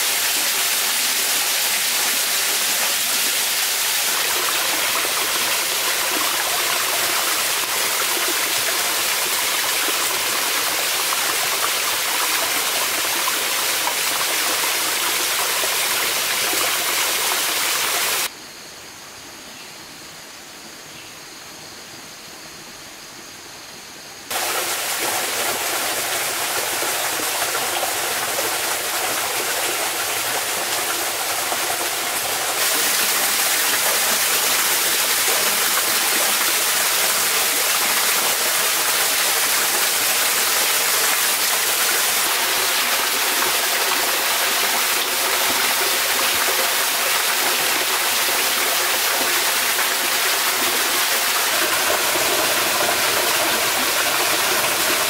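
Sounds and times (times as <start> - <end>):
waterfall splashing into a pool: 0.0 - 18.3, 24.3 - 55.0.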